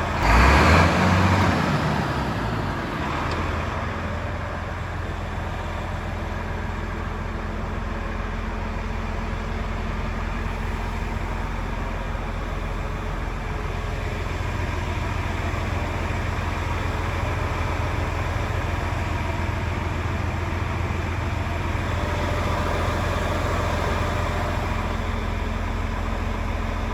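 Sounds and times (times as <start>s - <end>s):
diesel truck engine idling: 0.0s - 26.9s.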